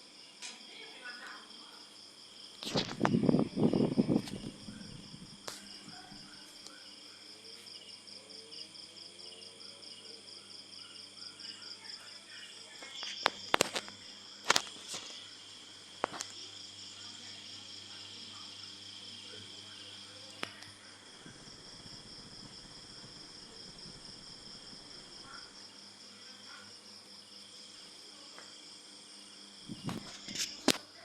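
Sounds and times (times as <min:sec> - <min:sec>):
crickets chirping: 0:00.0 - 0:31.0
faint low hum: 0:02.6 - 0:31.0.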